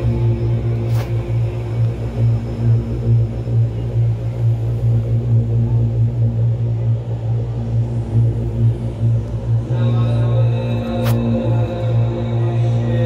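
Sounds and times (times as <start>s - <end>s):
deep droning music over loudspeakers: 0.0s - 13.0s.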